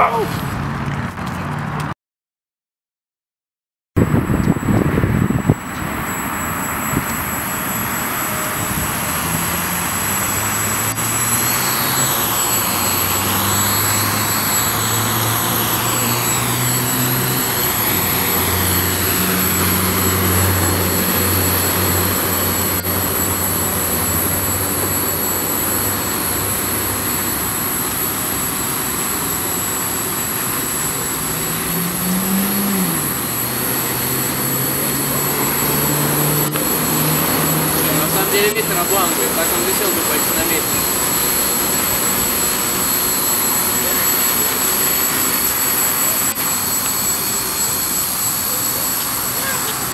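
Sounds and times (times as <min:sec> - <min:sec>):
quadcopter propellers whirring: 0:00.0 - 0:01.9, 0:04.0 - 0:49.9.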